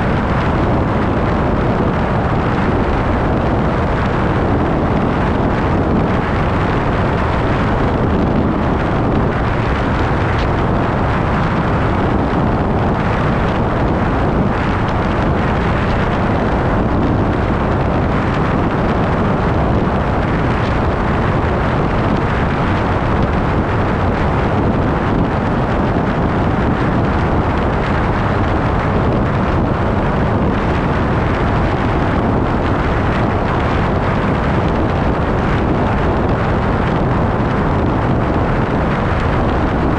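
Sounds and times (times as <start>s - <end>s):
vehicle road and engine noise: 0.0s - 39.9s
wind buffeting microphone: 0.0s - 39.9s.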